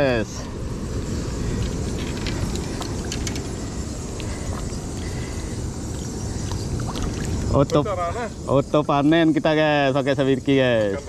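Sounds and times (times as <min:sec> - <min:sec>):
surf at the shore: 0:00.0 - 0:11.0
wind: 0:00.0 - 0:11.0.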